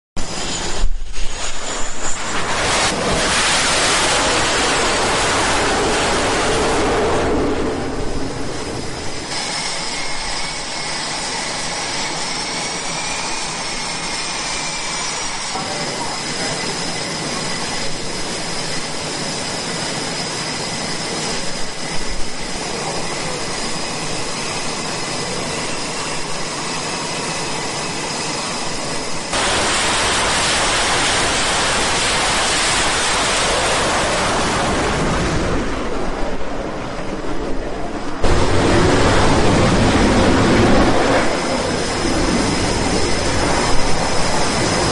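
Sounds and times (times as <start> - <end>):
high turbine whine: 0.2 - 44.9
jet engines roaring: 0.2 - 44.9.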